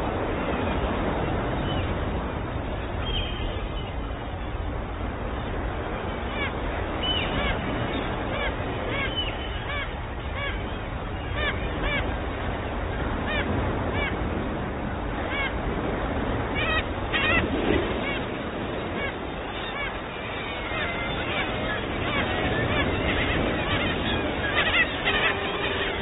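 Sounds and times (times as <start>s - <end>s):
sea noise: 0.0s - 26.0s
gulls calling: 0.1s - 26.0s.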